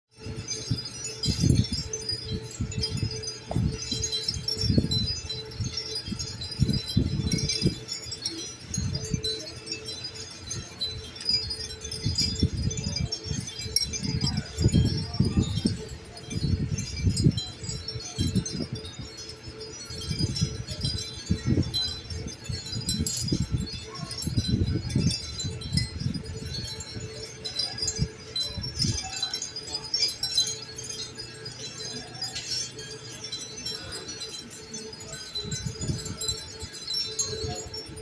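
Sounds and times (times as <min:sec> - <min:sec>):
wind chimes tinkling: 0:00.1 - 0:38.0.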